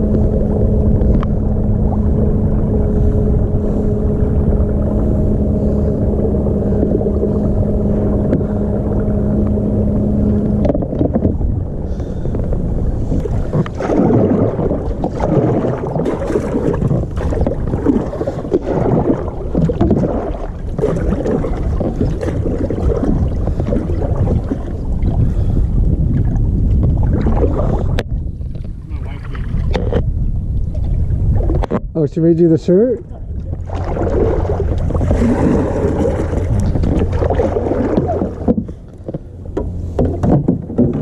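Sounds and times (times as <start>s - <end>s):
water sloshing and splashing: 0.0s - 31.9s, 32.6s - 41.0s
steady hum: 0.0s - 41.0s
wind buffeting microphone: 0.0s - 41.0s.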